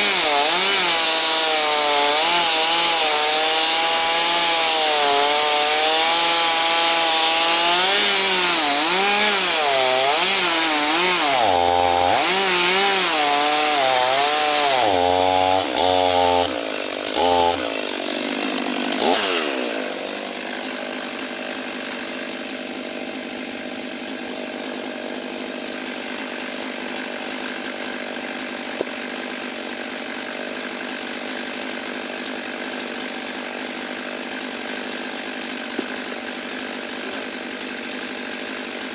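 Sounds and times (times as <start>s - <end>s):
chainsaw cutting log: 0.0s - 38.9s
chainsaw idling: 0.0s - 38.9s.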